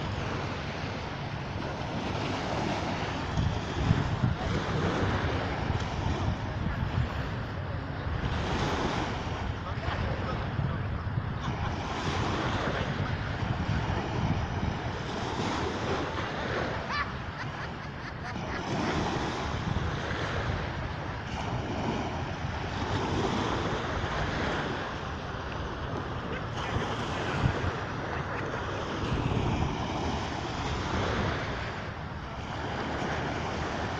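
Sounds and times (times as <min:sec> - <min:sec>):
surf washing onto shore: 0:00.0 - 0:33.9
wind rumbling on microphone: 0:00.0 - 0:33.9.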